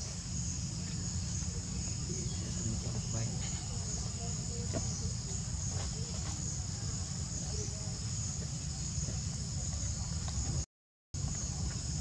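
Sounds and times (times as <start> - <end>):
insect chorus buzzing: 0.0 - 10.6.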